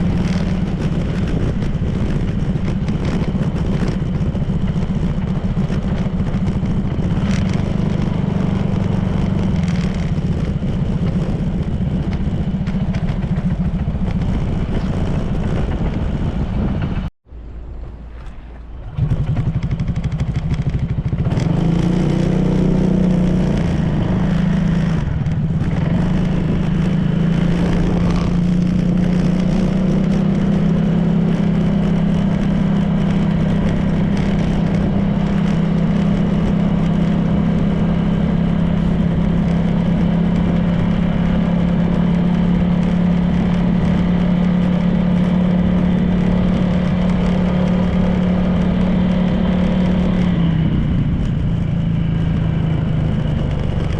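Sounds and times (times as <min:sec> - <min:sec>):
scooter engine running: 0:00.0 - 0:17.1, 0:18.8 - 0:53.9
wind and road noise: 0:00.0 - 0:53.9.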